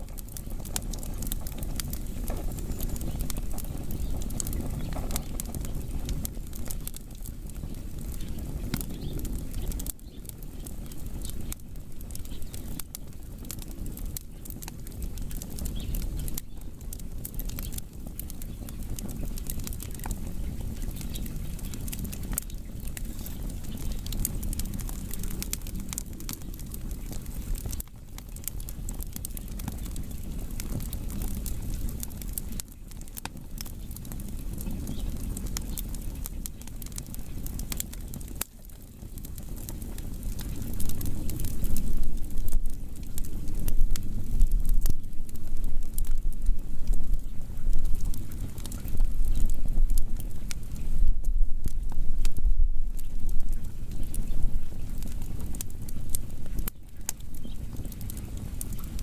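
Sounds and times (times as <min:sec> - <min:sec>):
fire crackling and popping: 0:00.0 - 0:59.0
low rumble of fire: 0:00.0 - 0:59.0.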